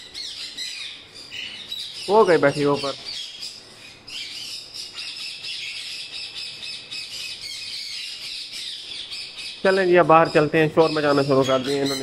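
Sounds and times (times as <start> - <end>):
parakeets squawking: 0.0 - 12.0.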